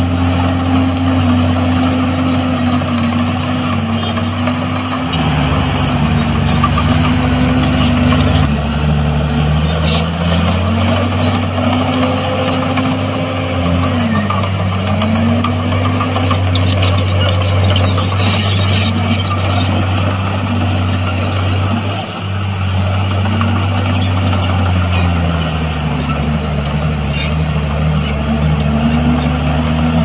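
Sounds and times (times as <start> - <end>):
heavy diesel machinery engine: 0.0 - 30.0.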